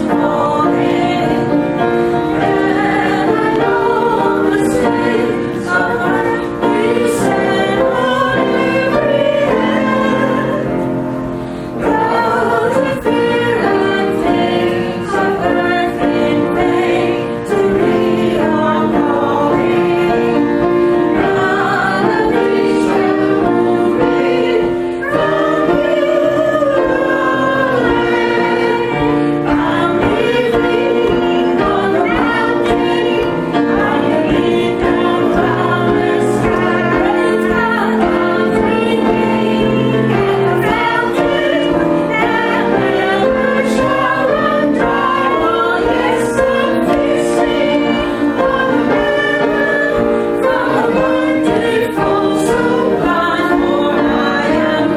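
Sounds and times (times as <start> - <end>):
choir and congregation singing hymn: 0.0 - 54.9.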